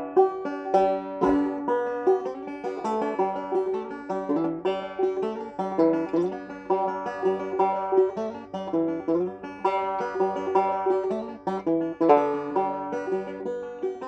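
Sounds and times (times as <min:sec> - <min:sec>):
banjo playing a reel: 0:00.0 - 0:14.0.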